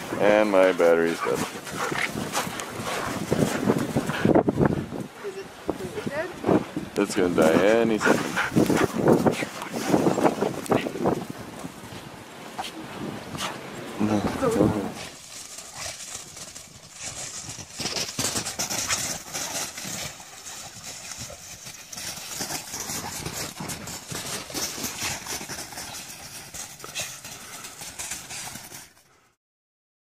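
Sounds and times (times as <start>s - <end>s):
dogs crunching through snow: 0.0s - 29.4s.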